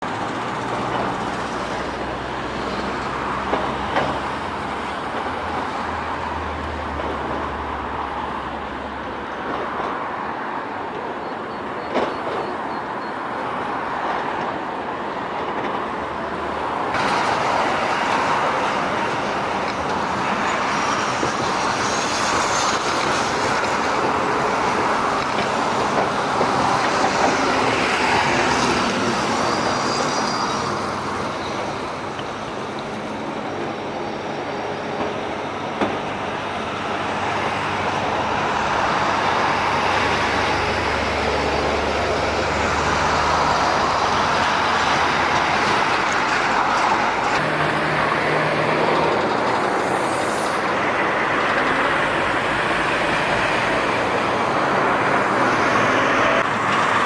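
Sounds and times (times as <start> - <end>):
ship engines droning: 11.0 - 57.0.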